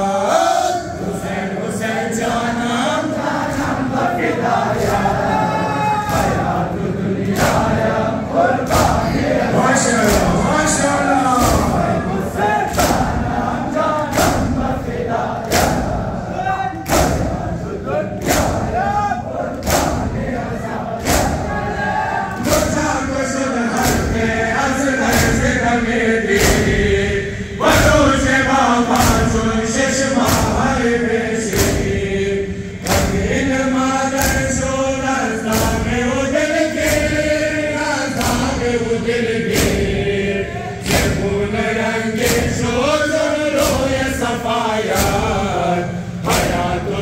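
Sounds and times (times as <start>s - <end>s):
crowd of men chanting: 0.0s - 47.0s.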